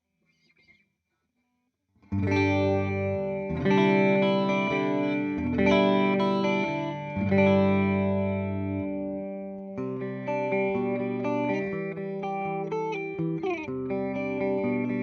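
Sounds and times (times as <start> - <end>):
electric guitar chords with chorus: 2.1 - 15.0.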